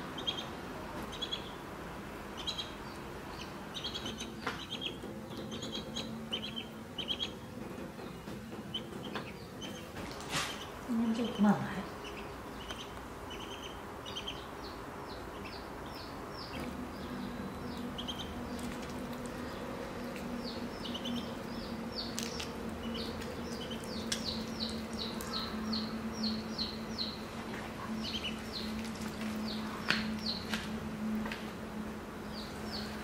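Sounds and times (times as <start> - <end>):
ducklings peeping: 0.0 - 1.6, 2.2 - 31.2
steady low hum: 0.0 - 33.0.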